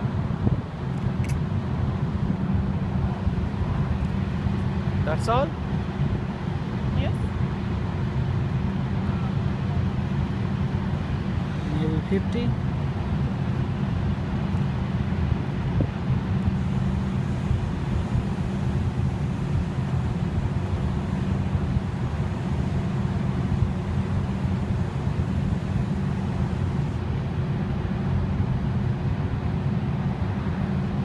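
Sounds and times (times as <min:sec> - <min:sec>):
low engine drone: 0:00.0 - 0:31.0.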